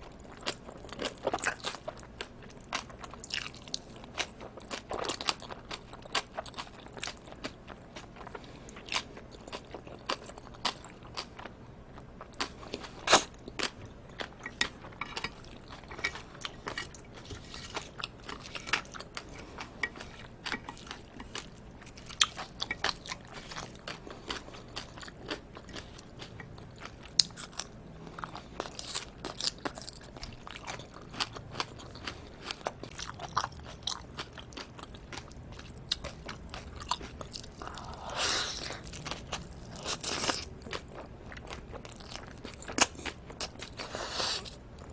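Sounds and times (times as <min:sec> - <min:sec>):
person chewing close up: 0:00.0 - 0:44.9.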